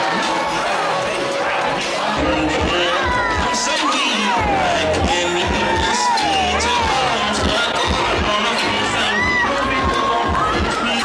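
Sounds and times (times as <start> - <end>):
crowd voices: 0.0 - 11.0
loud party music with bass beat: 0.0 - 11.0.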